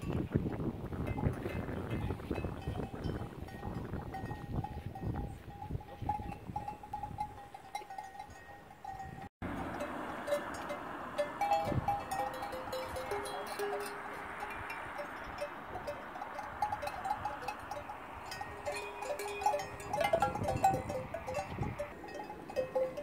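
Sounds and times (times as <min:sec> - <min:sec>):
cowbells clinking: 0:00.0 - 0:23.0.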